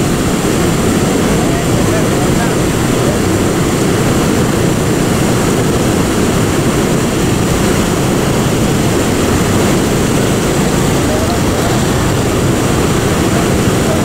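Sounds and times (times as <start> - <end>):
loud low rushing noise: 0.0 - 14.0.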